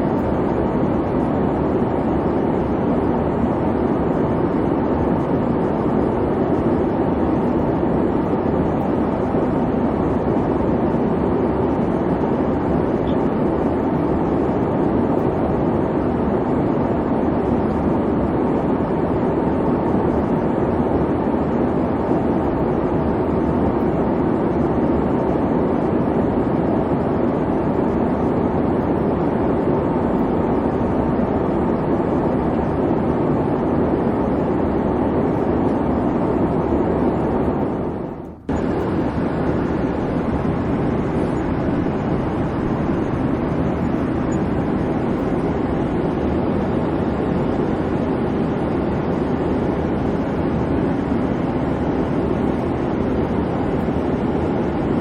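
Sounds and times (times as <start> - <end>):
jet engine cabin hum: 0.0 - 55.0.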